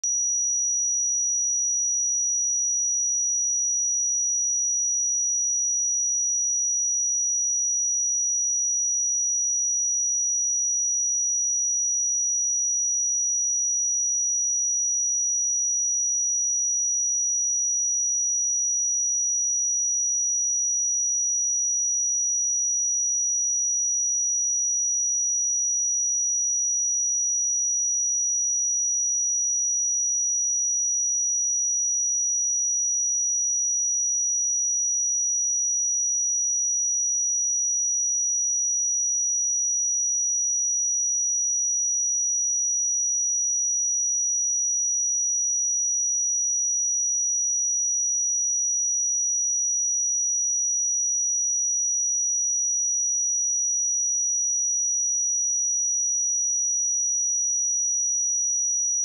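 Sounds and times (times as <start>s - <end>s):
high-pitched sine test tone: 0.0s - 59.0s.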